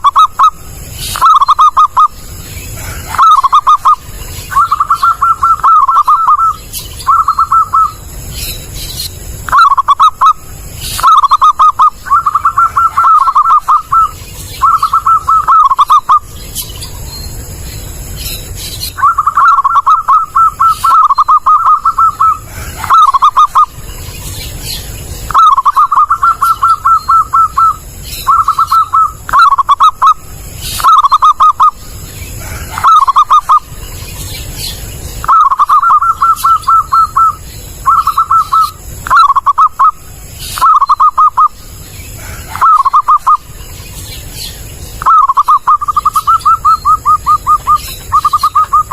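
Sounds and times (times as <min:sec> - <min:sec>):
dove cooing: 0:00.0 - 0:08.1, 0:09.5 - 0:16.3, 0:18.9 - 0:23.8, 0:25.3 - 0:33.8, 0:35.2 - 0:43.6, 0:45.0 - 0:48.9.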